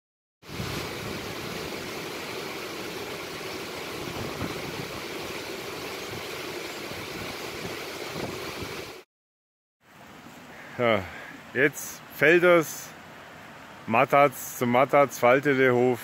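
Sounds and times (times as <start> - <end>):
stream rushing over rocks: 0.4 - 9.0, 9.9 - 16.0.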